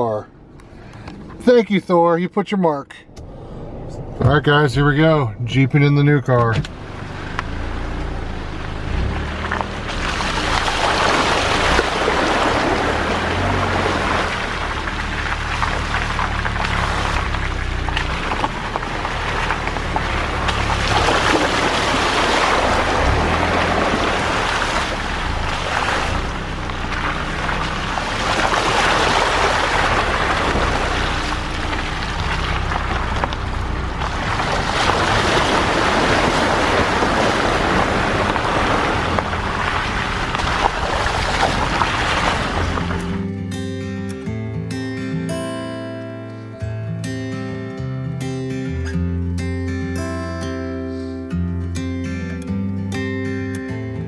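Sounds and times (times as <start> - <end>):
car engine hum: 0.0 - 45.5
tyre and road noise: 0.0 - 45.5.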